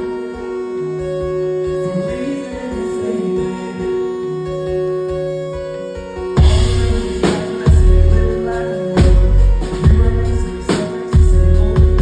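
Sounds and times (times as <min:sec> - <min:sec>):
slow music with held chords: 0:00.0 - 0:12.0
wavering melodic line: 0:00.0 - 0:12.0.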